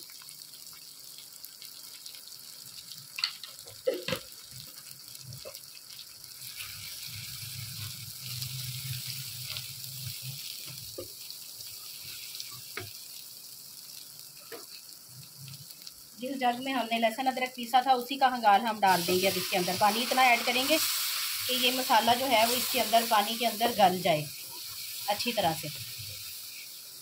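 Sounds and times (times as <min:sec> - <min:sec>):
masala sizzling in a wok: 0:00.0 - 0:27.0.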